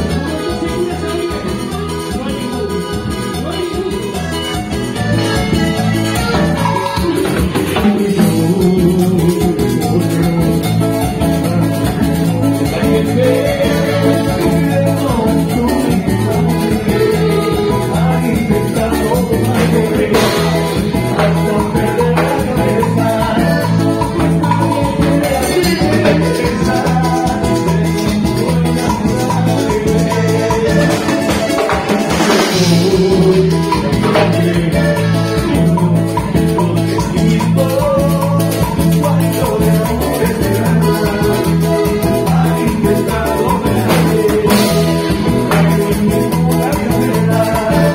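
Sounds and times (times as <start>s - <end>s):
live dance band playing: 0.0s - 47.9s
person singing: 0.0s - 47.9s.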